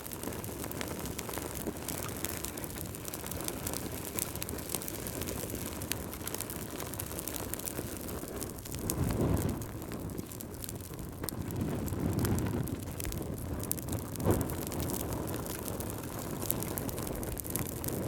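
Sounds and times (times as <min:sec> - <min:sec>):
logs crackling and popping: 0:00.0 - 0:18.0
low roar of flames: 0:00.0 - 0:18.0.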